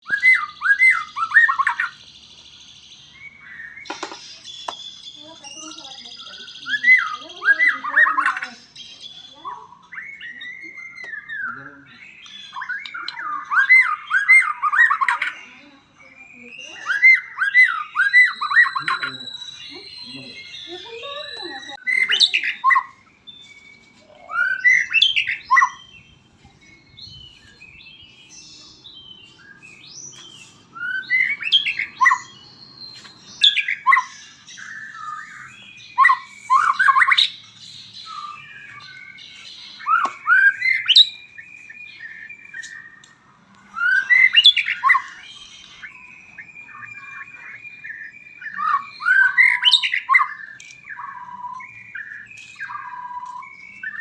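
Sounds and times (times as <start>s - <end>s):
bird singing whistled phrases: 0.0s - 54.0s
bird chattering notes: 0.1s - 54.0s.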